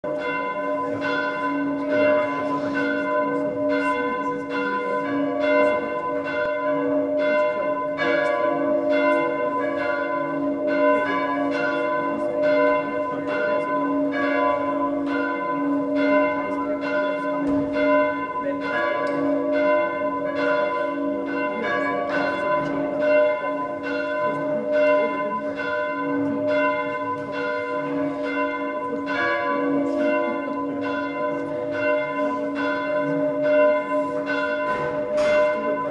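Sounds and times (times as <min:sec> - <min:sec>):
church bells ringing: 0:00.0 - 0:35.9.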